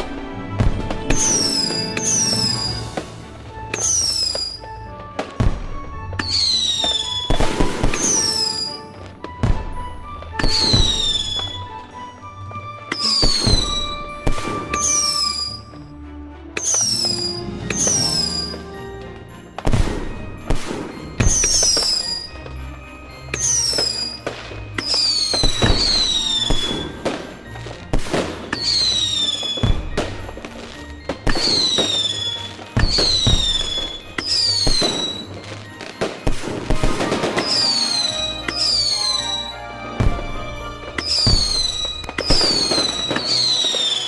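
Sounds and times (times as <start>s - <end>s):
firework bangs: 0.0s - 12.1s, 12.9s - 15.7s, 16.6s - 44.0s
music playing: 0.0s - 44.0s
firework whistles: 0.6s - 4.8s, 5.4s - 12.2s, 12.9s - 15.8s, 16.6s - 18.8s, 19.6s - 44.0s.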